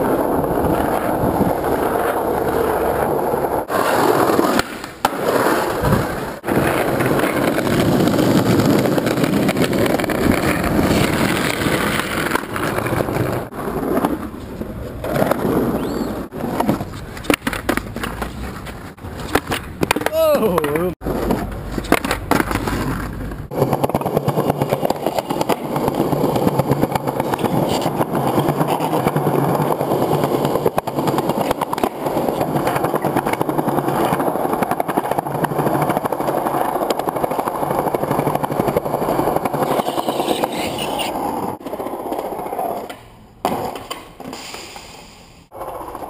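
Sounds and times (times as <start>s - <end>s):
skateboard wheels rolling on pavement: 0.0s - 46.0s.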